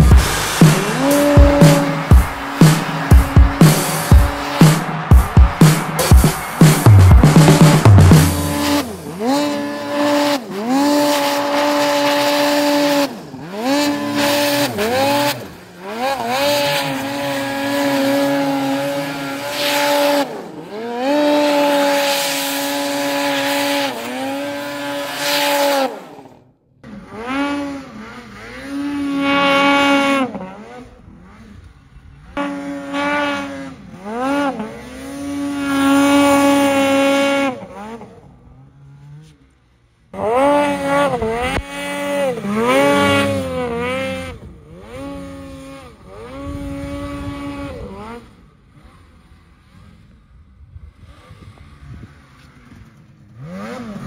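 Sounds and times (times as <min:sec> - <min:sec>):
snowmobile engines revving: 0:00.0 - 0:54.0.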